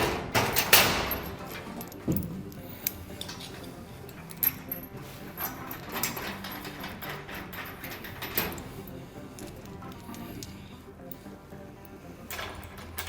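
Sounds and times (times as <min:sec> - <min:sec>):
metallic knocks and clinks: 0:00.0 - 0:11.4, 0:12.0 - 0:13.0
background music with steady tones: 0:00.0 - 0:13.0.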